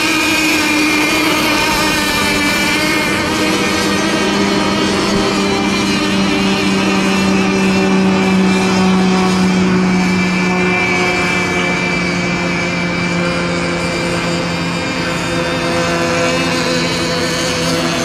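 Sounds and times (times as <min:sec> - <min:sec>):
model boat engines buzzing: 0:00.0 - 0:18.0.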